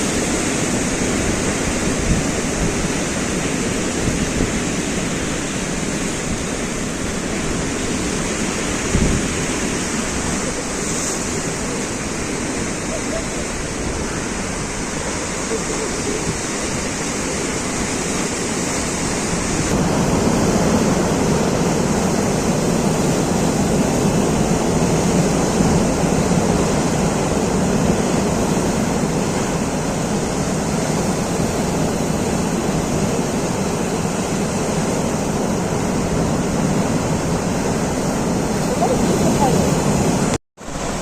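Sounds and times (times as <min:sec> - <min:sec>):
sea surf washing in: 0:00.0 - 0:41.0.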